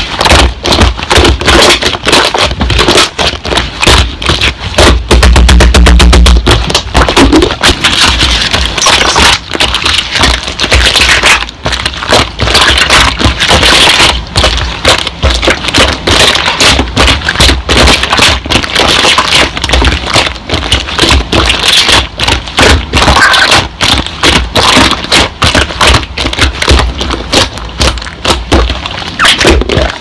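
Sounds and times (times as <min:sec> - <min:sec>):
slime crackling and popping: 0:00.0 - 0:30.0.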